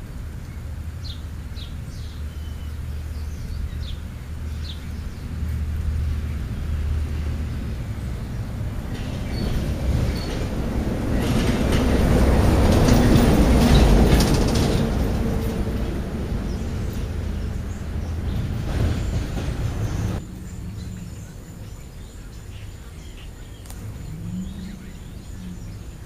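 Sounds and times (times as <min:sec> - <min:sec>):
passing vehicle rumble: 0:00.0 - 0:26.0.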